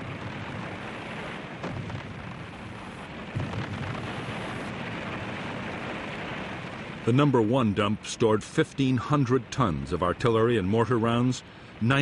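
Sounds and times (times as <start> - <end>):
rumble of explosions and shellfire: 0.0 - 12.0.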